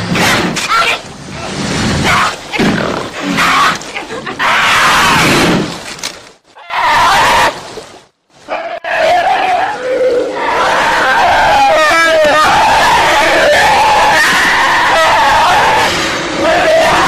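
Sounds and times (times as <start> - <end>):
animals roaring and growling: 0.2 - 5.7, 8.5 - 17.0.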